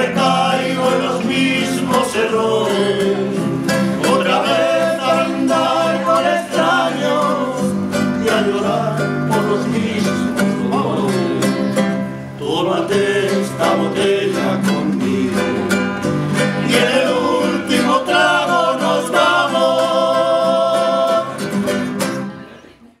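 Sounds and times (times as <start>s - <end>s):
men singing: 0.0s - 21.9s
plucked string instrument: 0.0s - 22.8s
acoustic guitar: 0.0s - 23.0s.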